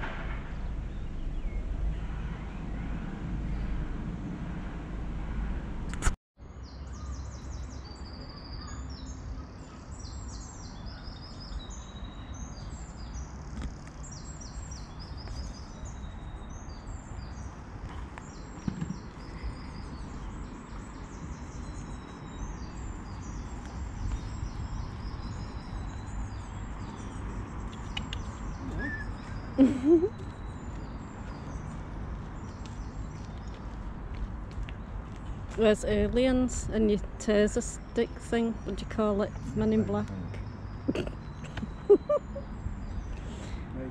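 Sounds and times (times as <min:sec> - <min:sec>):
wind rumble on microphone: 0:00.0 - 0:06.2, 0:10.3 - 0:43.9
songbirds chirping and trilling: 0:00.4 - 0:04.4, 0:06.4 - 0:43.9.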